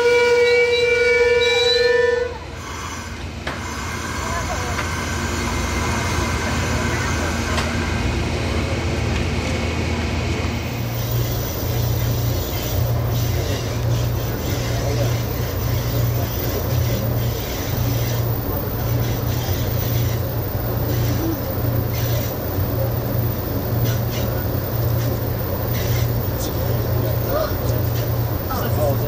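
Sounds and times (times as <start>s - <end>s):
train rumbling over rails: 0.0s - 29.0s.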